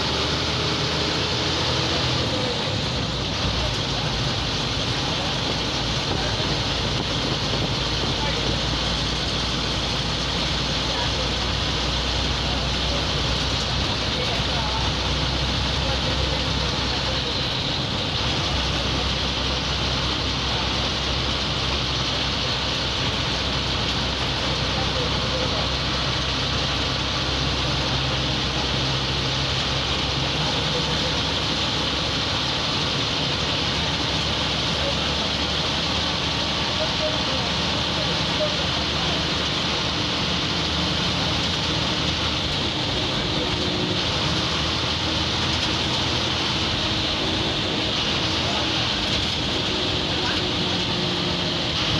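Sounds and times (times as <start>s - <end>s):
bus diesel engine droning: 0.0s - 51.9s
road noise hiss: 0.0s - 51.9s.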